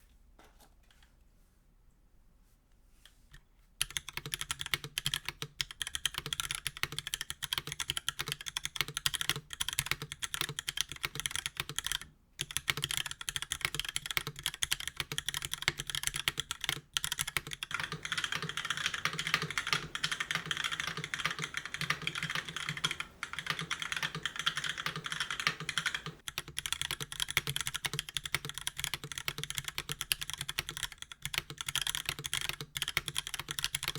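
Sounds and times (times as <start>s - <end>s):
fast mechanical keyboard typing: 3.8s - 33.9s.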